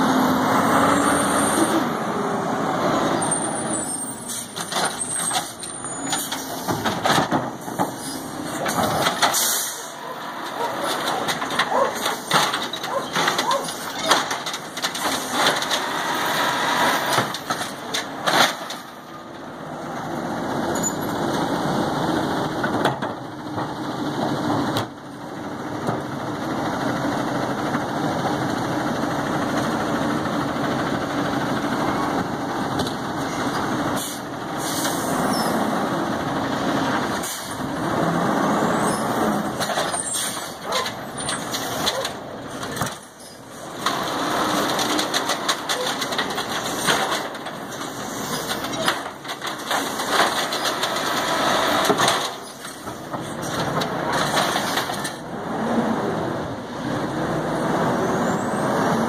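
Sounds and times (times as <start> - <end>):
truck engine and hydraulics: 0.0 - 59.0.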